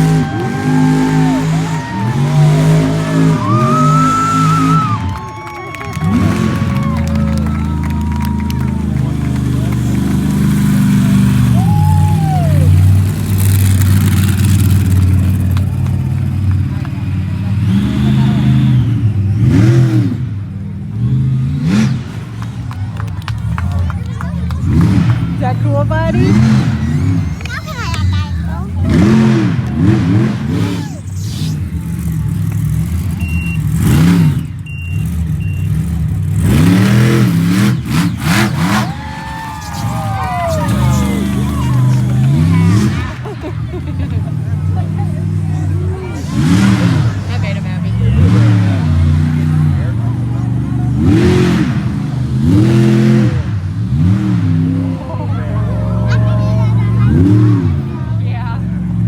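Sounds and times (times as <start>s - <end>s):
truck engine at high revs: 0.0s - 59.0s.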